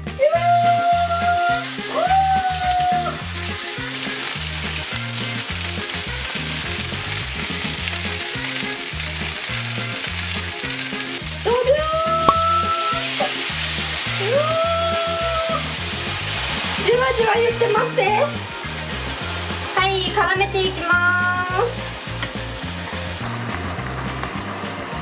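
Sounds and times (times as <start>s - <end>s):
background music with low beat: 0.0s - 25.0s
chicken sizzling in a frying pan: 0.2s - 25.0s.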